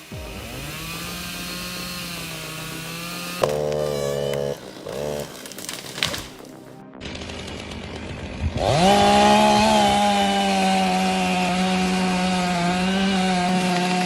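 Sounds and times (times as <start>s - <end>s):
chainsaw running: 0.0s - 14.0s.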